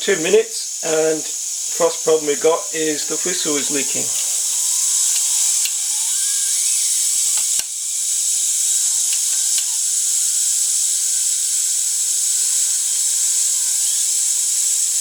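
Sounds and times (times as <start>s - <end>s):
steam hissing under pressure: 0.0s - 15.0s.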